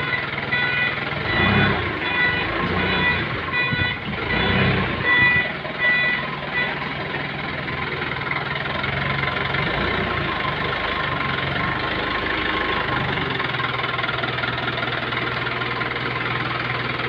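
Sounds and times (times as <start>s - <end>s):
forklift engine running: 0.0s - 17.0s.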